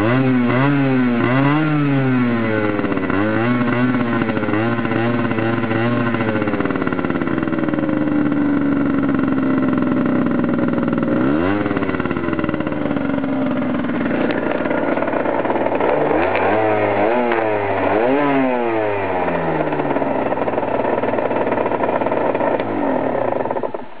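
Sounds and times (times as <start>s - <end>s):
two-stroke engine revving: 0.0s - 24.0s.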